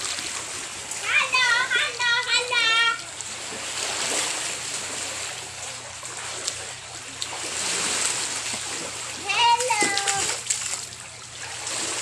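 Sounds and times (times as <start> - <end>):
water washing over sand: 0.0 - 12.0.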